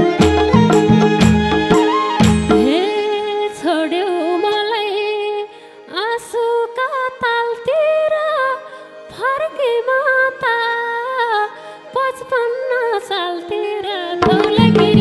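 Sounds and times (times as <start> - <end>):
woman singing folk melody: 2.6 - 15.0.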